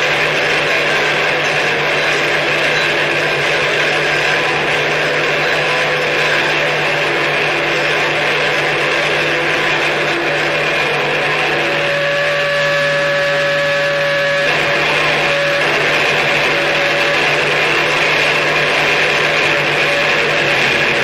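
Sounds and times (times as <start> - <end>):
distorted electronic noise: 0.0 - 21.0.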